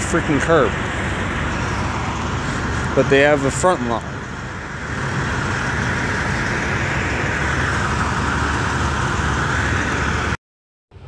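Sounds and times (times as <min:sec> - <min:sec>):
trucks idling: 0:00.0 - 0:10.4.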